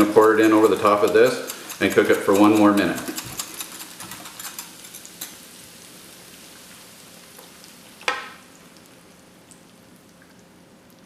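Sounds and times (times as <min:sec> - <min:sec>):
food sizzling in butter: 0:00.1 - 0:09.1.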